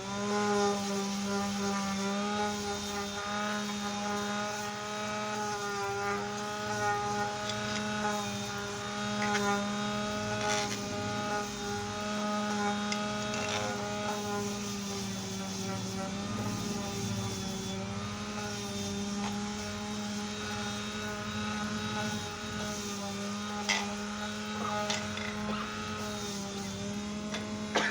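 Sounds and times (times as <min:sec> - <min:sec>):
electric sander running: 0:00.0 - 0:27.9.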